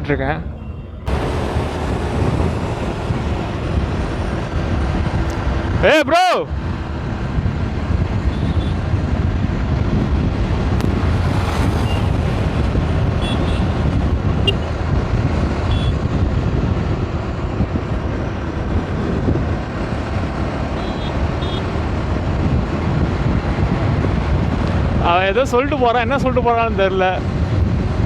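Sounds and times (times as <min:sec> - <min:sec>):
wind buffeting microphone: 0:00.0 - 0:05.9, 0:06.5 - 0:28.0
motorcycle road noise: 0:00.0 - 0:28.0.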